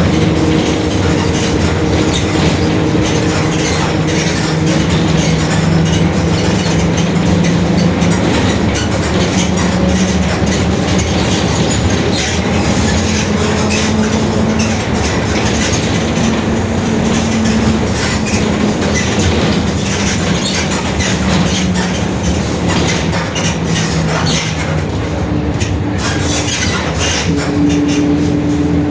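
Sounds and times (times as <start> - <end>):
bus differential droning: 0.0 - 28.9
road noise: 0.0 - 28.9.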